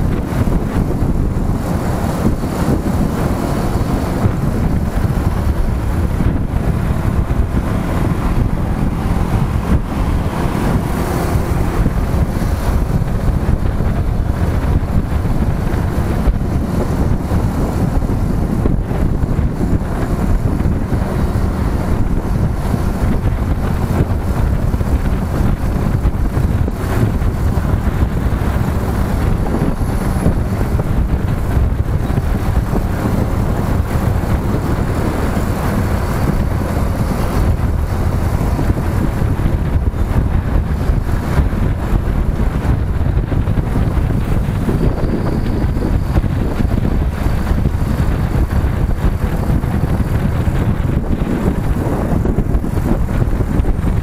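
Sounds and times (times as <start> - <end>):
motorcycle engine: 0.0 - 54.0
wind buffeting microphone: 0.0 - 54.0.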